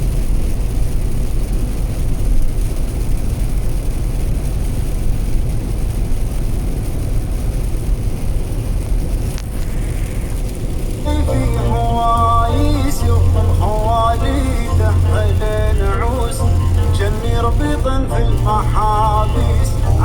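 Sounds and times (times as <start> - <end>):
car road rumble: 0.0 - 20.0
road and wind hiss: 0.0 - 20.0.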